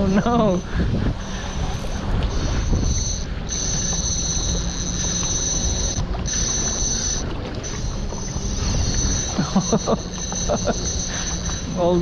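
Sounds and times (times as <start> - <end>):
fishing reel drag screaming: 0.0 - 12.0
jet ski rumble: 0.0 - 12.0.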